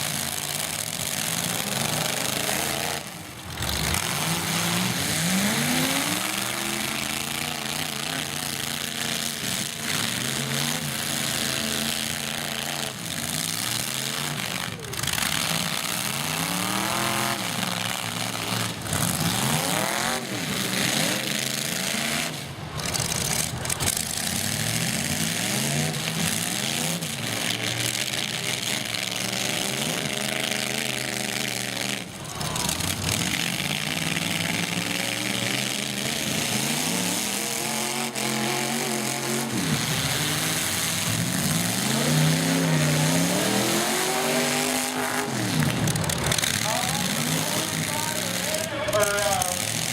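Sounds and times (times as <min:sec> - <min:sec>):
truck engines revving: 0:00.0 - 0:49.9
trucks crashing together: 0:00.0 - 0:49.9.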